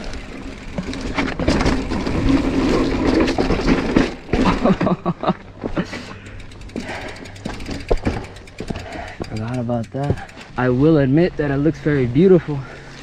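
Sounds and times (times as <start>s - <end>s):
mountain bike rattling: 0.0s - 13.0s.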